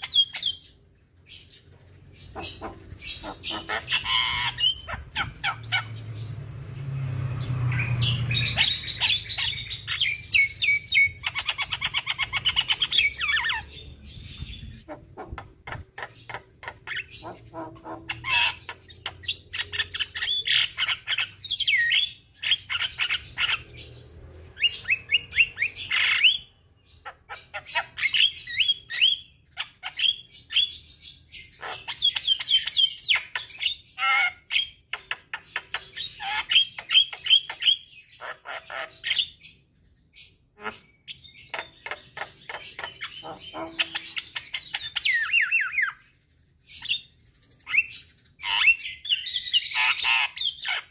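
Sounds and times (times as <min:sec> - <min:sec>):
bird chattering song: 0:00.0 - 0:50.9.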